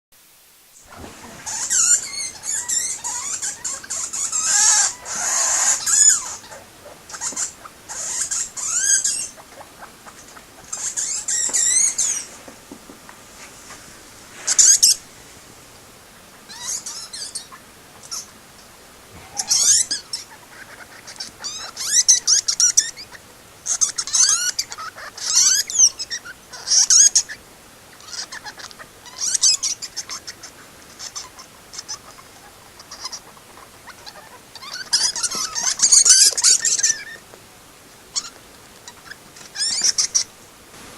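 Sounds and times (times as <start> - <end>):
rodents squeaking and chirping: 0.8 - 13.1, 14.4 - 15.0, 16.3 - 18.4, 19.1 - 37.3, 38.1 - 40.4.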